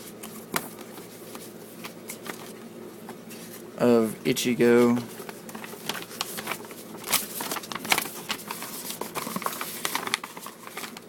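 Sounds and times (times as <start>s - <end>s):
paper rustling and crinkling: 0.0s - 3.7s, 4.6s - 11.0s.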